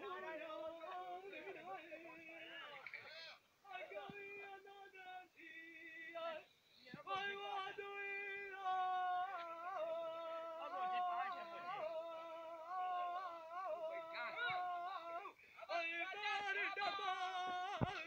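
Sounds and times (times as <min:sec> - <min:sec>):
man singing unaccompanied: 0:00.0 - 0:02.9, 0:03.6 - 0:18.0.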